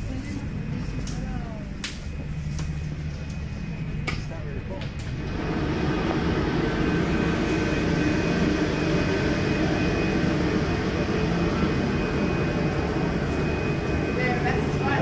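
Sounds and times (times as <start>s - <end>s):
ferry diesel engine rumble: 0.0s - 15.0s
faint high whine: 0.1s - 15.0s.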